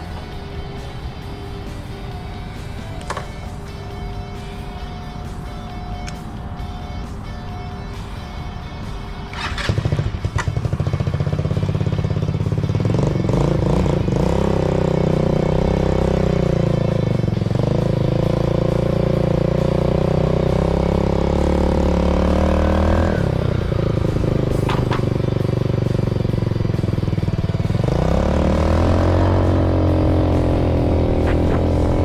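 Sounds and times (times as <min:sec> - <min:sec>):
motorcycle engine starting and running: 0:00.0 - 0:32.0.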